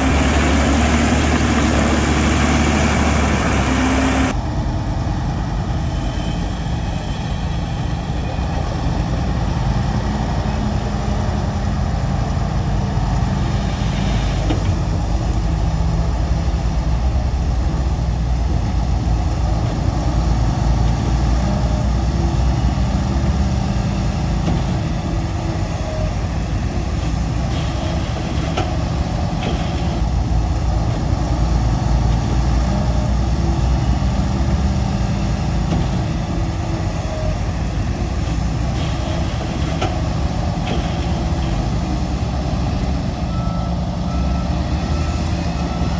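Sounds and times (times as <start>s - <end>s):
diesel machinery engine drone: 0.0s - 45.9s.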